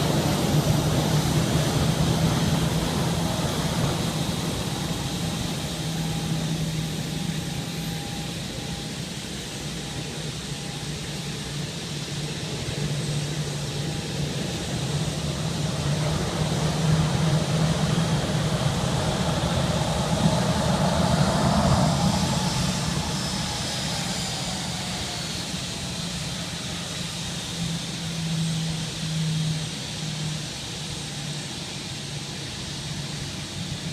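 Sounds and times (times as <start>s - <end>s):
jet engine whine: 0.0s - 33.9s.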